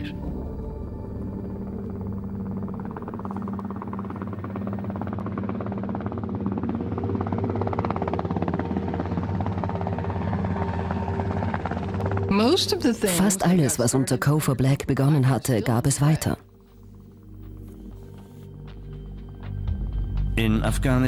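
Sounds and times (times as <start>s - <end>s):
helicopter rotors chopping: 0.0s - 17.8s
droning music: 0.0s - 21.0s.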